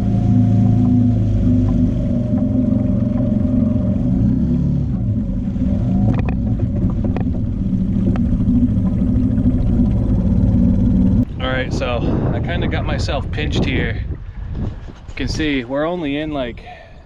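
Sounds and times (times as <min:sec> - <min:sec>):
outboard motor running: 0:00.0 - 0:14.3.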